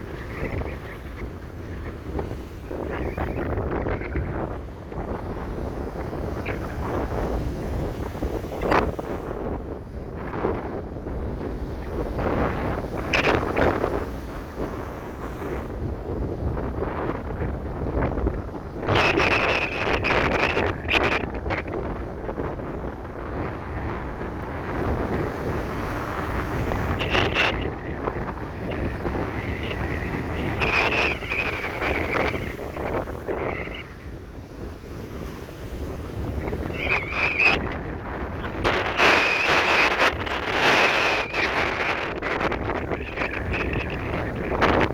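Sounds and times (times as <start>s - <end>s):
strong gusting wind: 0.0s - 44.9s
wind buffeting microphone: 0.0s - 44.9s.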